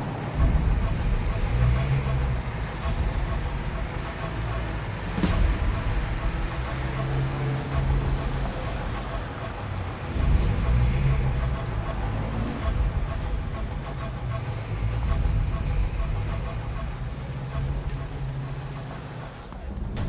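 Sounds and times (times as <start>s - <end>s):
truck engine rumbling past: 0.0s - 20.0s.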